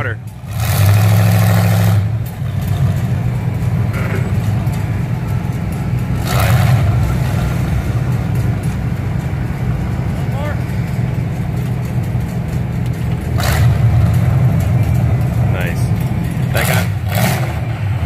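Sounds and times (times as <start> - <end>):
truck engine rumbling: 0.0 - 18.0.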